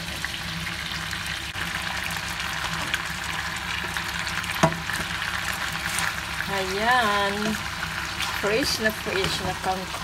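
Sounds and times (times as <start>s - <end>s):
wok sizzling: 0.0s - 10.0s.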